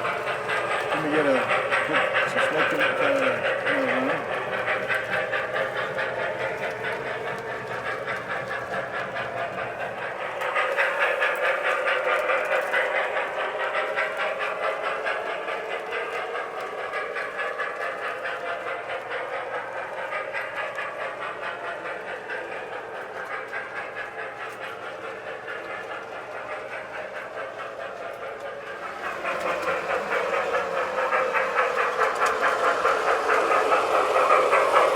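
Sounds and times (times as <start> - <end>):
toy train clattering on track: 0.0 - 34.9.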